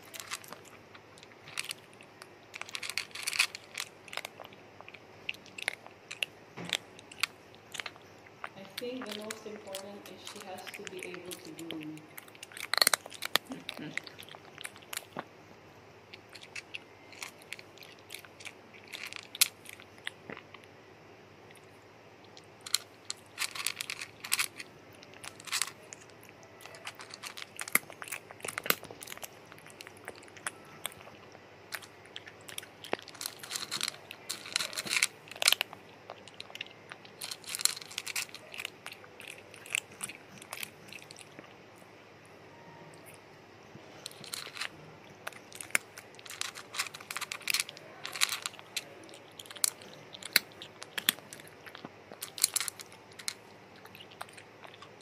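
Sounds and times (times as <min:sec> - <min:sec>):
rat gnawing pumpkin: 0:00.0 - 0:42.0, 0:43.8 - 0:55.0.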